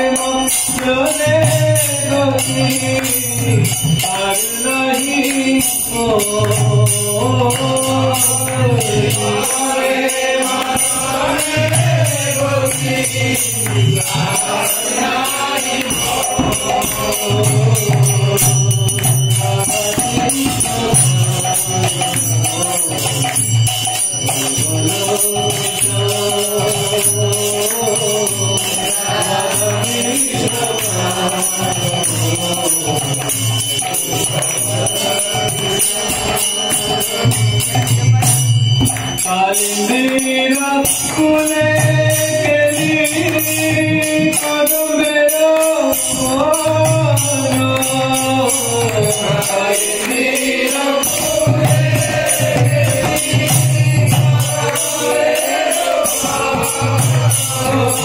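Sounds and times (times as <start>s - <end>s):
man singing: 0.0s - 38.3s, 39.2s - 58.0s
jingling percussion: 0.0s - 58.0s.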